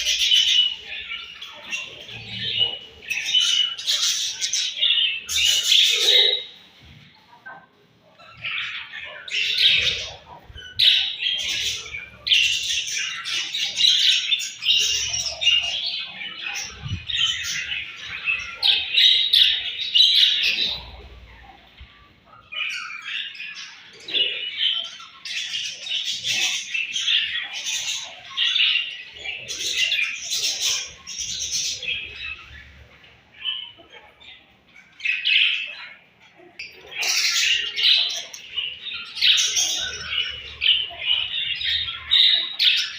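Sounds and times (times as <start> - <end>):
budgerigars chirping and chattering: 0.0 - 42.9.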